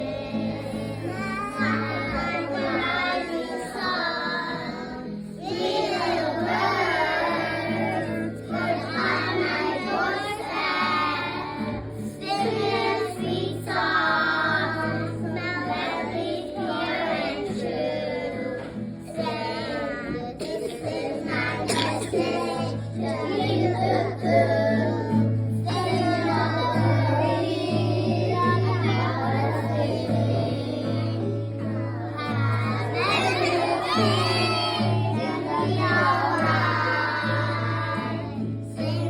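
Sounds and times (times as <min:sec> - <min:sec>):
children singing: 0:00.0 - 0:39.0.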